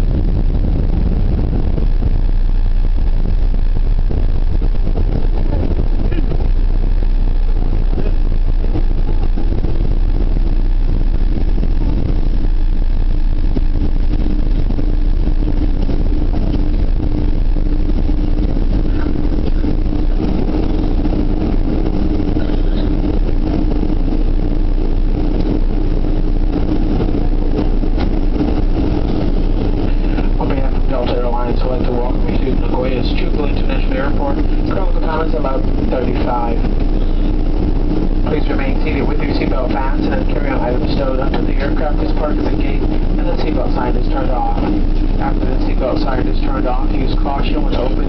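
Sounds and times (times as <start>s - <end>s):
jet engines rumbling in cabin: 0.0s - 48.0s.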